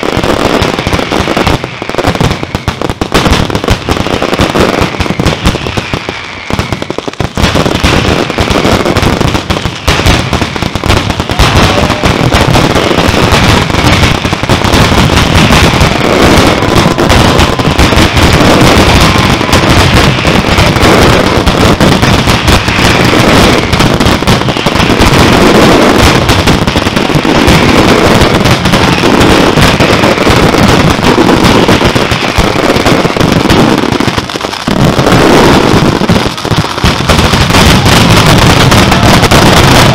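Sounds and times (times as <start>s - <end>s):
firecrackers barrage of bangs: 0.0s - 39.9s.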